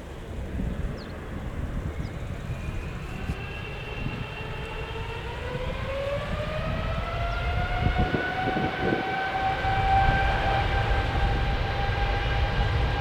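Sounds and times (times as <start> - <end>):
jet engines spooling up: 1.9 - 13.0.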